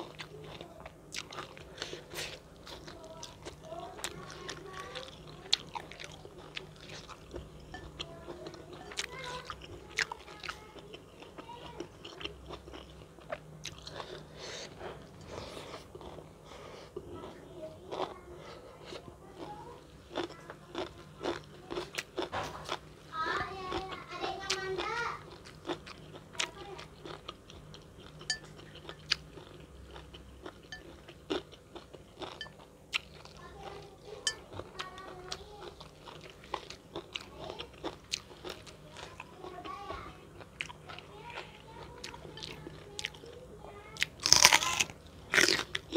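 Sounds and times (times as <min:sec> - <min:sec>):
crunching and chewing food: 0:00.0 - 0:45.9.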